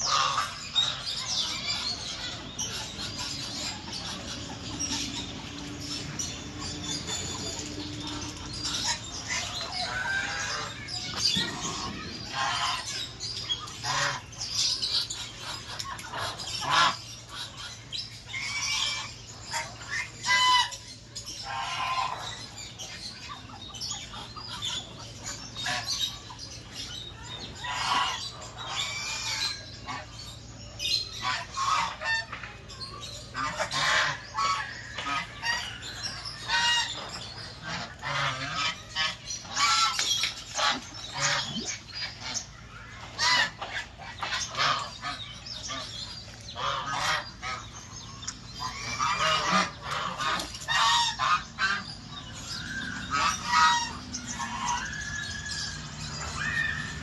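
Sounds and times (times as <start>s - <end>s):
flock of birds calling: 0.0s - 57.0s.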